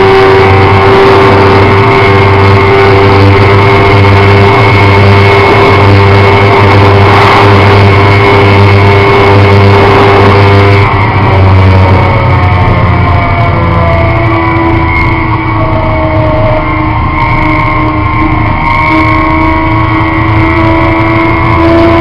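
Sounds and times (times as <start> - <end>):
motorcycle engine at high revs: 0.0 - 22.0.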